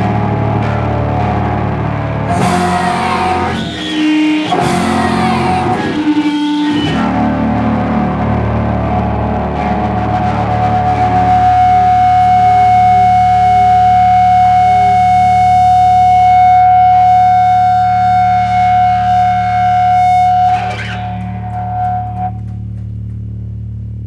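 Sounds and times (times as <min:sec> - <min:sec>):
distorted electric guitar drone: 0:00.0 - 0:23.7
low amplifier hum: 0:00.0 - 0:24.0.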